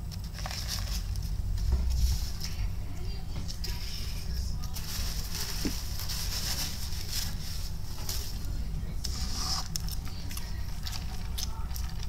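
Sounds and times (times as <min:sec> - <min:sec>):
low electrical hum and hiss: 0:00.0 - 0:12.0.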